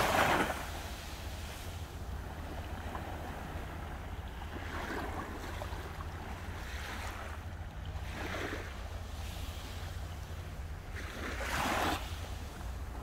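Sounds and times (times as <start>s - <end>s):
sea waves washing onto shore: 0.0s - 13.0s
steady low rumble: 0.0s - 13.0s.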